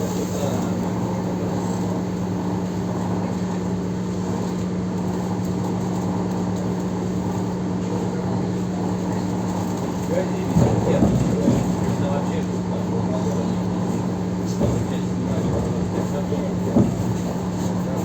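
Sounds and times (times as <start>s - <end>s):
electric train hum: 0.0s - 18.0s
train rolling noise: 0.0s - 18.0s.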